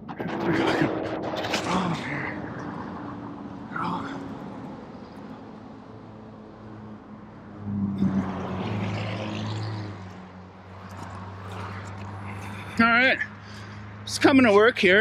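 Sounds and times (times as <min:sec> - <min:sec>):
vehicle engine humming: 0:00.0 - 0:14.8.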